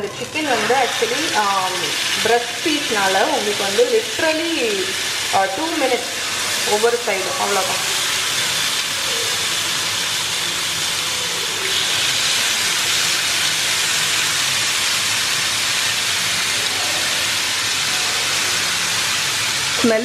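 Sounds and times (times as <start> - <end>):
chicken sizzling in frying pan: 0.0 - 20.0.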